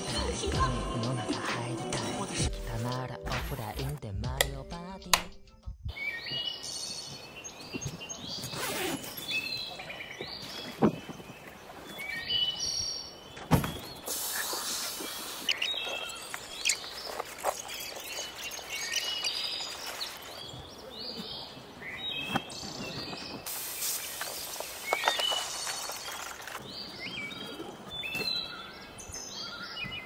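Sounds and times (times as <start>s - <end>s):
birds chirping and calling: 5.9s - 30.0s.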